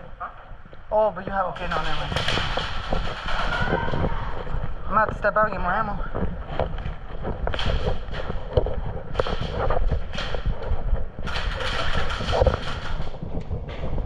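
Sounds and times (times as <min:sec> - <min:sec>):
bursts of rustling noise: 0:00.0 - 0:14.0
low rumble: 0:00.0 - 0:14.0
wind buffeting microphone: 0:00.0 - 0:14.0.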